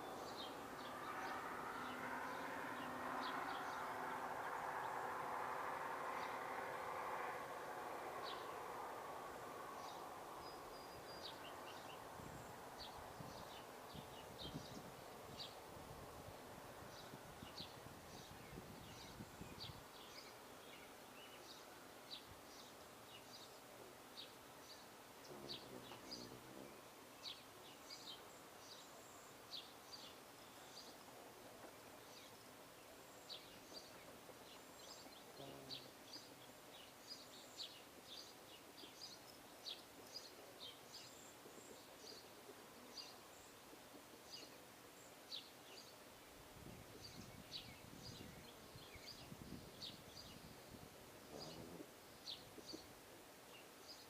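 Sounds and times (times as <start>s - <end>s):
steady background hiss: 0.0s - 54.0s
small birds chirping: 8.0s - 15.7s, 16.3s - 54.0s.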